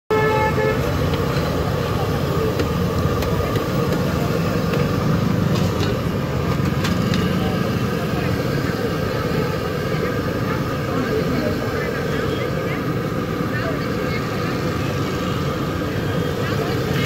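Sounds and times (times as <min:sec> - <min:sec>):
voices in background: 0:00.3 - 0:17.0.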